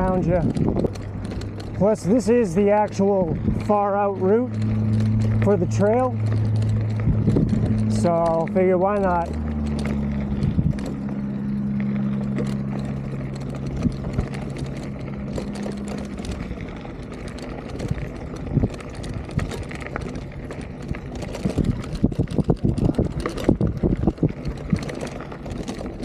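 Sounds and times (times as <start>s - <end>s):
bicycle rattling over gravel: 0.0s - 26.0s
low engine hum: 0.0s - 26.0s.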